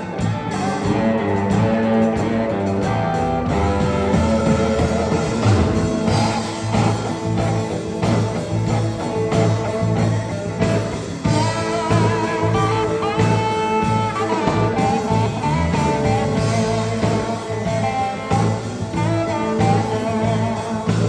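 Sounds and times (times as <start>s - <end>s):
bass: 0.0s - 21.0s
drums: 0.0s - 21.0s
steel guitar sliding notes: 0.0s - 21.0s.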